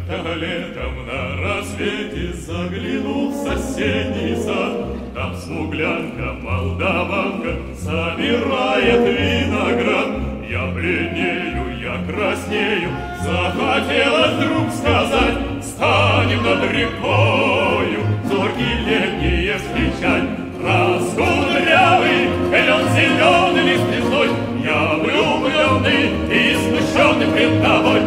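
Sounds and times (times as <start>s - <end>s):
choral singing with orchestra: 0.0s - 28.0s.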